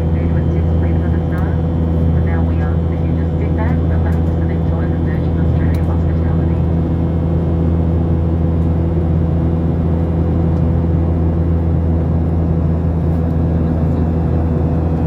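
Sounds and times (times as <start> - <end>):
faint steady hum: 0.0 - 13.3
jet engine drone in cabin: 0.0 - 15.0.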